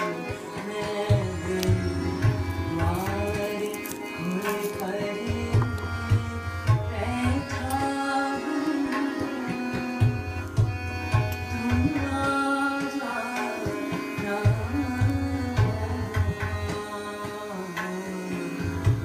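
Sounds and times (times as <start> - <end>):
steady held drone notes: 0.0 - 16.9
woman singing devotional song: 0.0 - 19.0.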